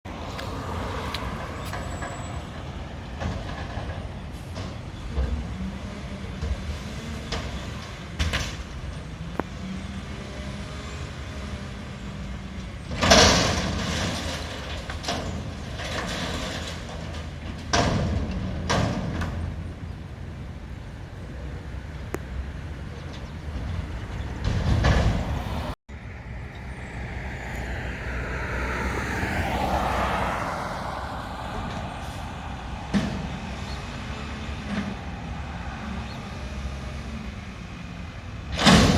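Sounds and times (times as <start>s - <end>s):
garbage truck diesel engine: 0.0s - 38.9s.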